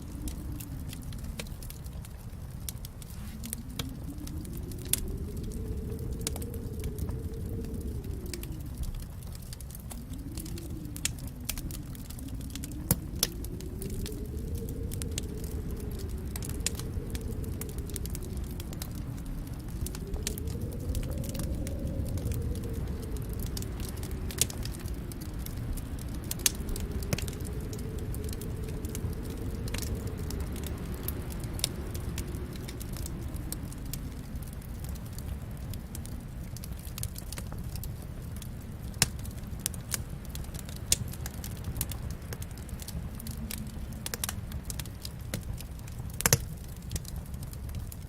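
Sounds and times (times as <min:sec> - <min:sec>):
wood fire burning: 0:00.0 - 0:48.0.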